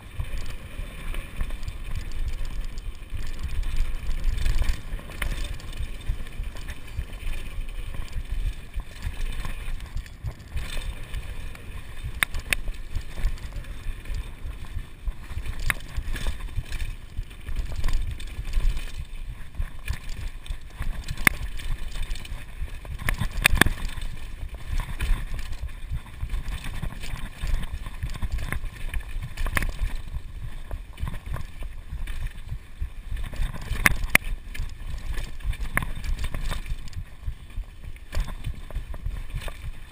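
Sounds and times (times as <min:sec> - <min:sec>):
bike clacking and rattling: 0:00.0 - 0:32.6
bike tyres rumbling on dirt: 0:00.0 - 0:39.9.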